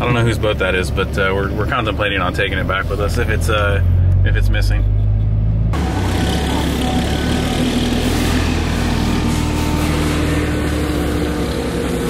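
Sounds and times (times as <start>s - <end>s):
pickup truck engine drone: 0.0s - 12.0s.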